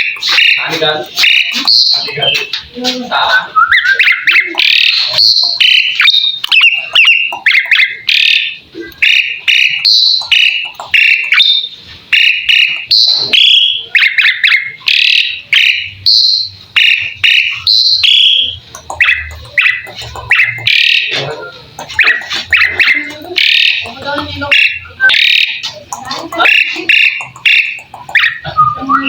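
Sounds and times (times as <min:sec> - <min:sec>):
starling chattering and whistling: 0:00.0 - 0:29.0.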